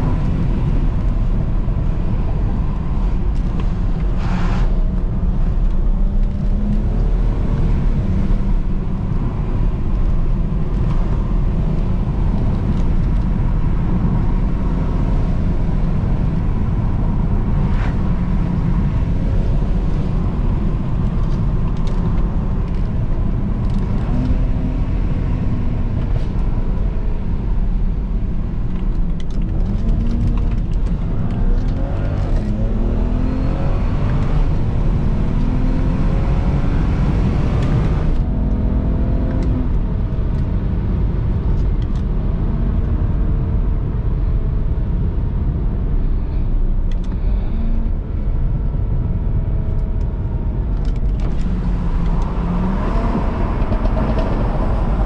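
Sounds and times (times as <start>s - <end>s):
car engine droning: 0.0s - 55.0s
road and tyre noise: 0.0s - 55.0s.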